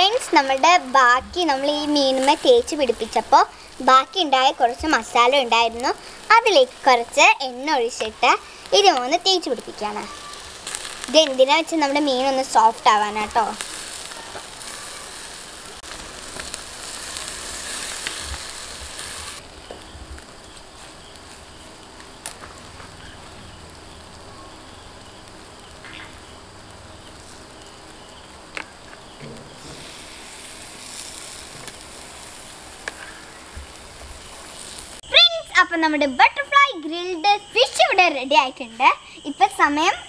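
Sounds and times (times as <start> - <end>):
fish sizzling on a grill: 0.0 - 40.0.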